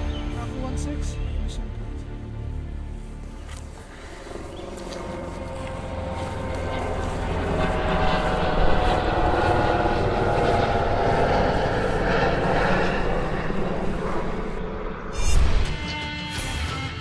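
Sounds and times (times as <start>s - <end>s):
airplane engine drone: 0.0s - 16.7s.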